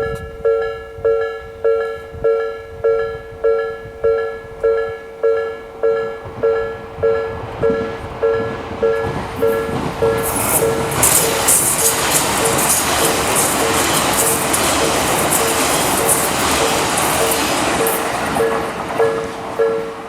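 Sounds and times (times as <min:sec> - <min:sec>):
approaching train running noise: 0:00.0 - 0:20.0
level-crossing electronic bell: 0:00.0 - 0:20.0.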